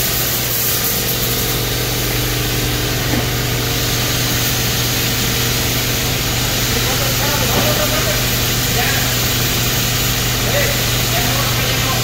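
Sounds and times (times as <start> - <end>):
conveyor machinery humming: 0.0 - 12.0.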